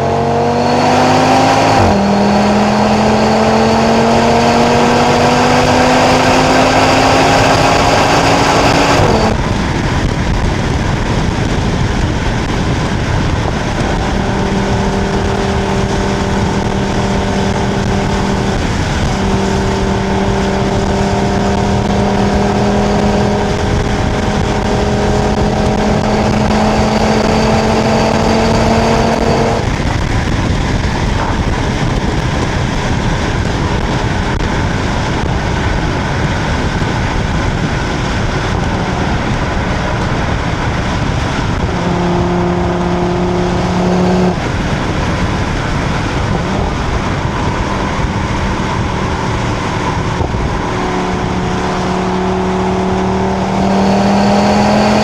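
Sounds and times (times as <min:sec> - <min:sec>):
car exhaust note: 0:00.0 - 0:55.0
wind noise: 0:00.0 - 0:55.0.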